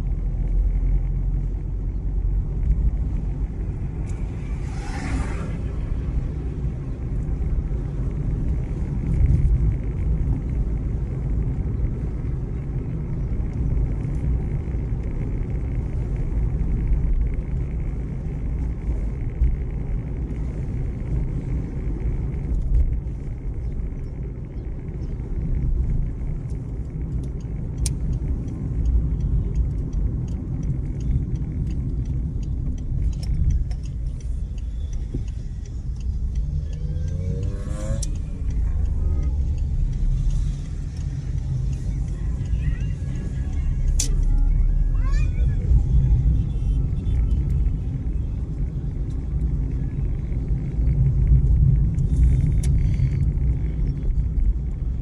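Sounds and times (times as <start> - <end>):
car engine and tyres rumbling: 0.0 - 55.0
faint light ticks: 0.0 - 55.0.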